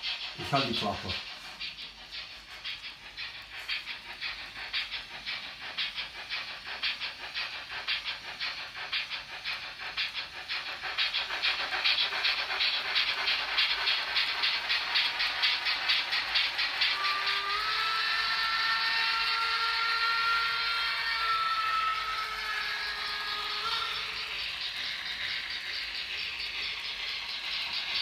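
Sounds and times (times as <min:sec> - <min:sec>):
model train steam chuffs: 0:00.0 - 0:28.0.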